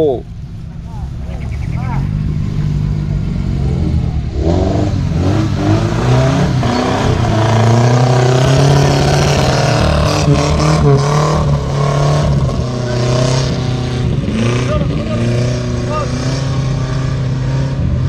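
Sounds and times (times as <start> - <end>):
off-road vehicle engines revving: 0.0 - 18.0.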